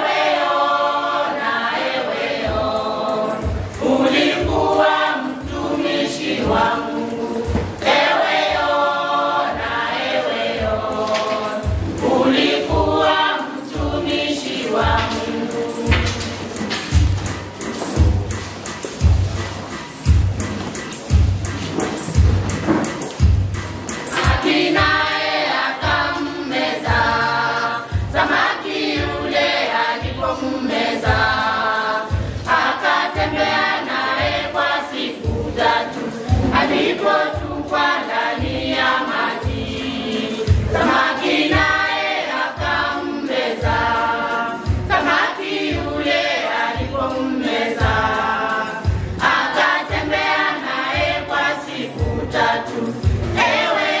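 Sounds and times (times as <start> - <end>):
gospel choir singing: 0.0 - 54.0
drum beat: 3.4 - 8.9, 9.5 - 54.0.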